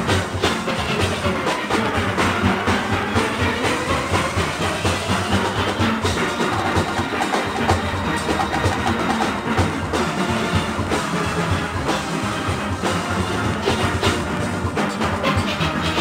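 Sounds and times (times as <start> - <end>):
drums and percussion: 0.0 - 16.0
steelpans playing tune: 0.0 - 16.0.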